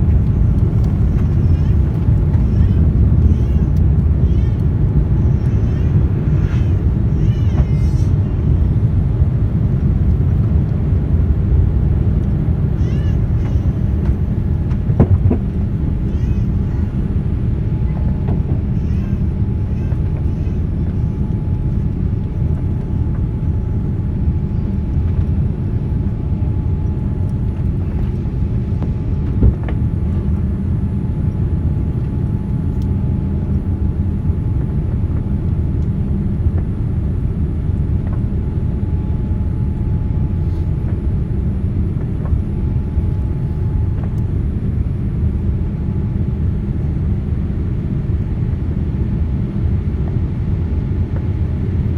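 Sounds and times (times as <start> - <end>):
jet engines rumbling in cabin: 0.0 - 51.9.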